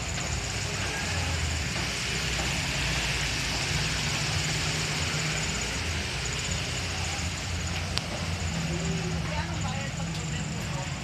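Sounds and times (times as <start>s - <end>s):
motorbike engines in traffic: 0.0s - 11.0s.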